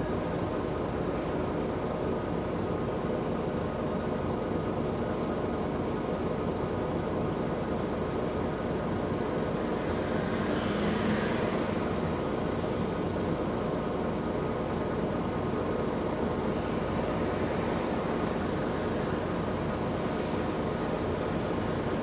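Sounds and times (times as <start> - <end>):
bus engine and road hum: 0.0 - 22.0.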